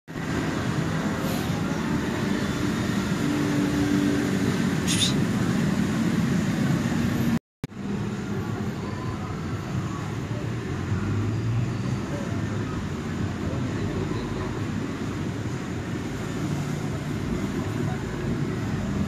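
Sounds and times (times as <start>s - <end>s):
traffic rumble: 0.1s - 19.0s.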